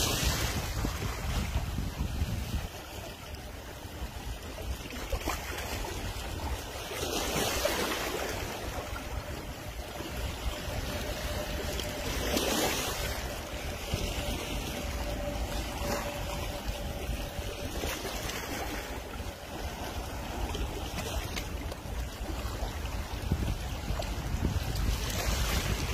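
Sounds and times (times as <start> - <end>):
wind rumble on microphone: 0.0 - 25.9.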